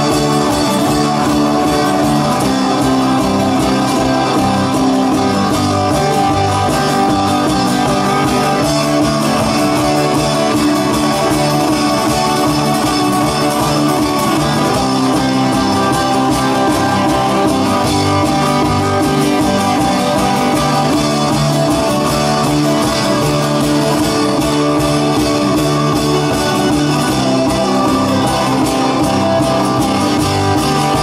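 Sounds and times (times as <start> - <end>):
drum kit: 0.0 - 31.0
electric bass: 0.0 - 31.0
strummed acoustic guitars: 0.0 - 31.0.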